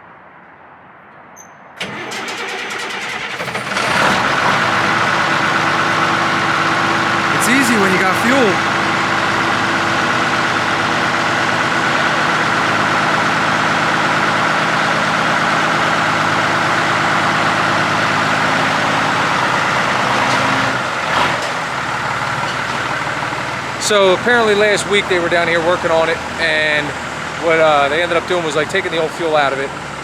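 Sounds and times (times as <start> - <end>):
diesel truck engine idling: 1.8 - 30.0.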